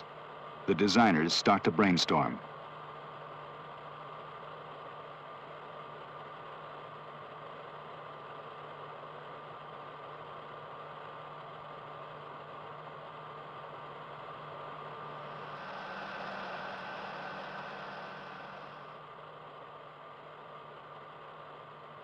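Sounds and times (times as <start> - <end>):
faint constant whine: 0.0 - 22.0
film soundtrack hiss and hum: 0.0 - 22.0.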